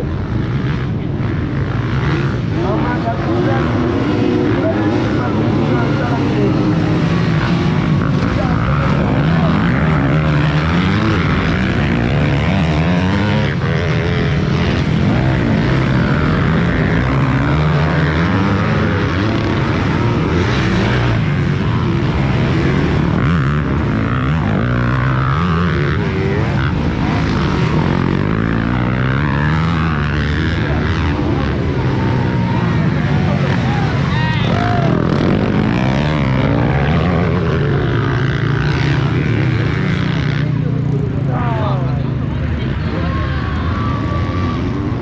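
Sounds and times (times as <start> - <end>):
motocross bike engines revving: 0.0 - 45.0.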